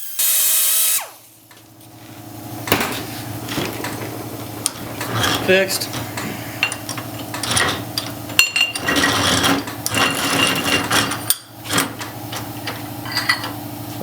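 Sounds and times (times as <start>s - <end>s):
metal tools clanking: 2.6s - 14.0s.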